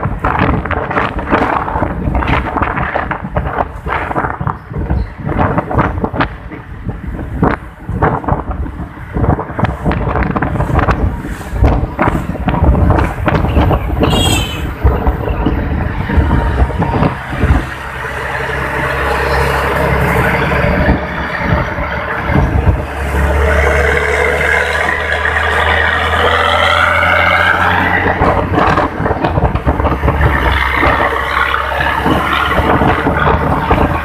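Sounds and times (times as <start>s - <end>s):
bus engine low rumble: 0.0s - 34.0s.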